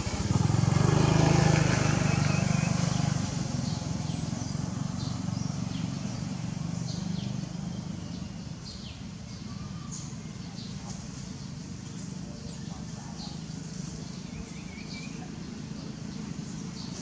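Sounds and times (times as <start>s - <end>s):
vehicle engine moving away: 0.0s - 17.0s.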